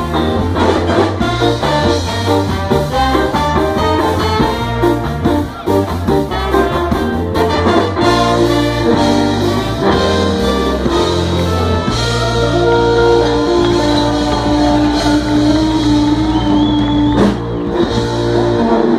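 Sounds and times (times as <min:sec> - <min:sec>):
bass: 0:00.0 - 0:18.9
drums: 0:00.0 - 0:18.9
horn section playing: 0:00.0 - 0:18.9
keyboard: 0:00.0 - 0:18.9.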